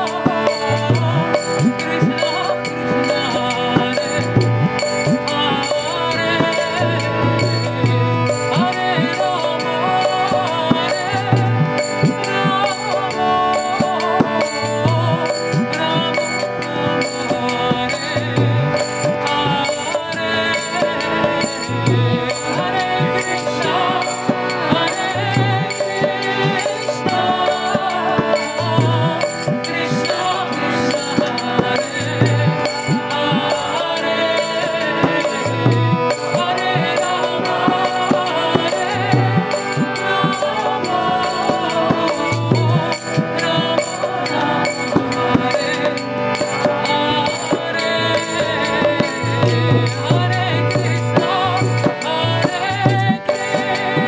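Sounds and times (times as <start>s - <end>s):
harmonium chords: 0.0s - 54.0s
woman singing a devotional chant: 0.0s - 54.0s.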